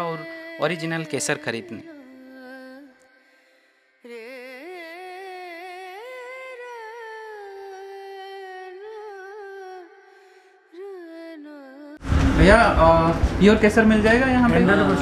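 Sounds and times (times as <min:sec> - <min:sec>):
person singing wordless melody: 0:00.0 - 0:12.0.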